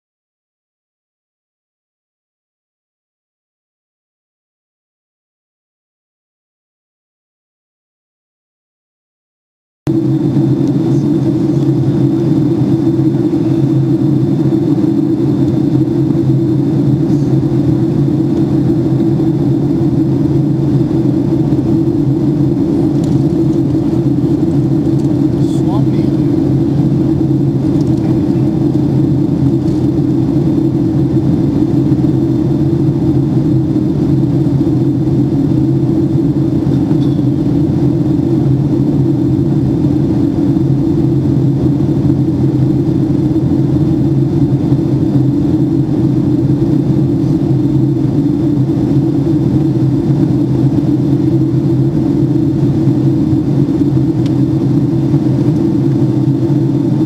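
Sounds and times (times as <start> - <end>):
airplane cabin drone: 9.9 - 57.0.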